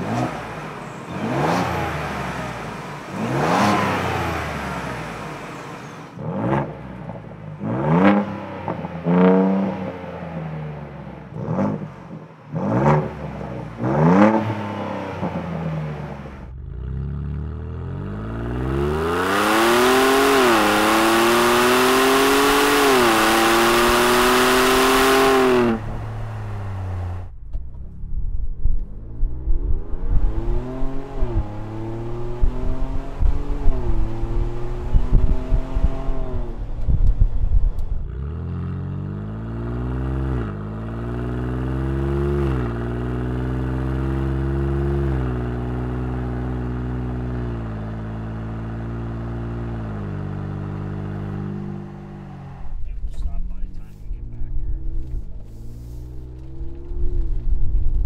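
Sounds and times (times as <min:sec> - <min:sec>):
engine accelerating hard: 0:00.0 - 0:58.0
engine revving: 0:00.0 - 0:58.0.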